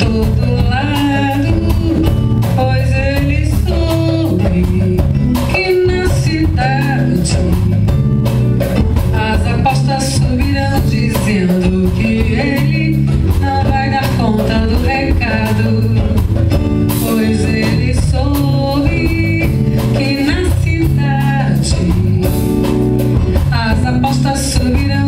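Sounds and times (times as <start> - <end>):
bass notes: 0.0 - 25.0
guitar: 0.0 - 25.0
live band music: 0.0 - 25.0
steady beat: 0.0 - 25.0.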